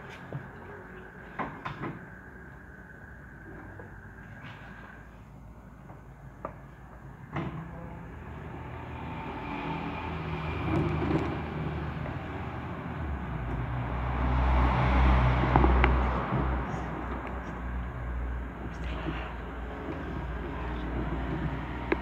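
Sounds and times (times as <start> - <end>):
vehicle engine rumble approaching: 0.0 - 22.0.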